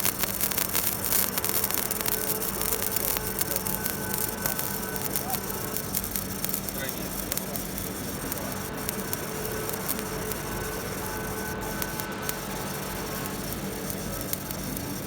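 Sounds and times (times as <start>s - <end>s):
crackle of electrical sparking: 0.0s - 15.0s
steady machine hum: 0.0s - 15.0s.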